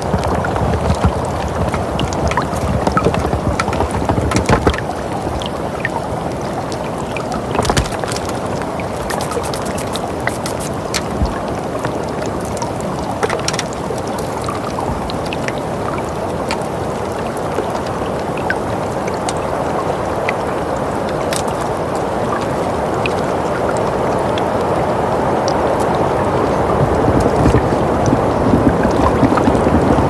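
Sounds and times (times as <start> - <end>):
small crackles and pops: 0.0 - 19.6, 21.1 - 22.5, 26.6 - 30.0.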